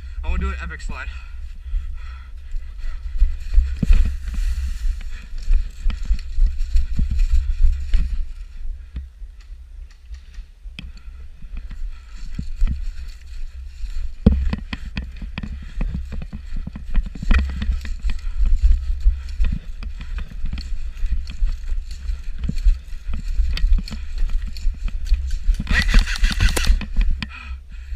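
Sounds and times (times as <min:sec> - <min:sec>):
wind rumble: 0:00.0 - 0:27.9
footsteps: 0:01.3 - 0:27.4
microphone handling noise: 0:03.0 - 0:09.1, 0:10.1 - 0:27.4.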